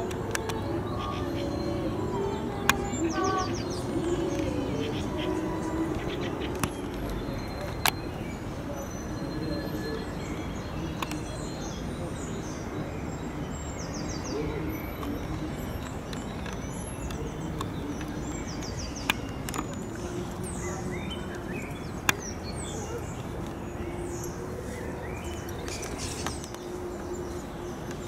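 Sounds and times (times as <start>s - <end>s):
outdoor background noise: 0.0s - 28.0s
songbirds chirping and trilling: 0.0s - 28.0s.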